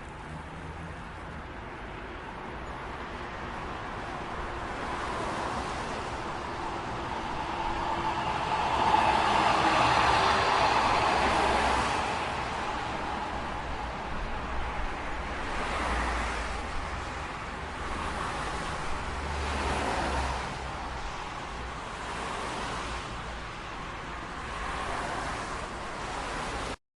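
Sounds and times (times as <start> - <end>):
cars passing: 0.0 - 26.8
low traffic rumble: 0.0 - 26.8.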